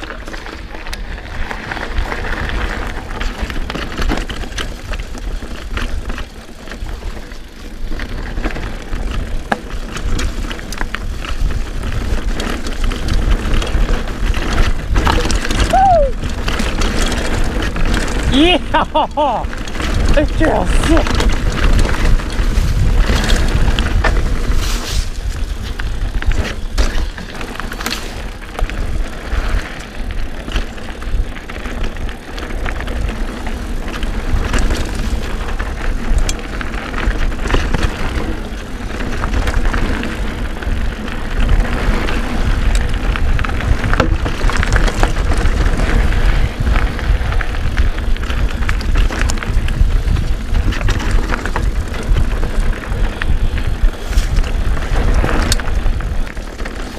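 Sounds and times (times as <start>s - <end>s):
bike rattling and knocking: 0.0s - 56.9s
bike tyre noise on dirt: 0.0s - 56.9s
wind rumble on microphone: 0.0s - 56.9s.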